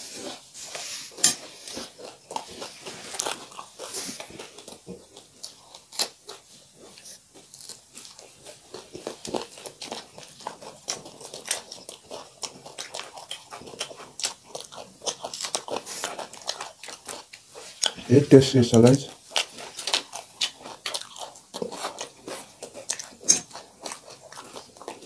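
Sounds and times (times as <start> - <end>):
chewing crisp food: 0.0 - 25.0.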